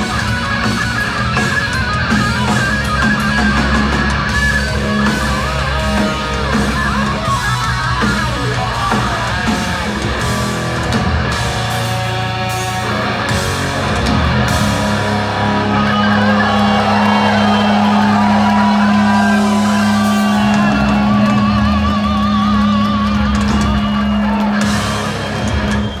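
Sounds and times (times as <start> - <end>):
live hard rock band: 0.0 - 26.0.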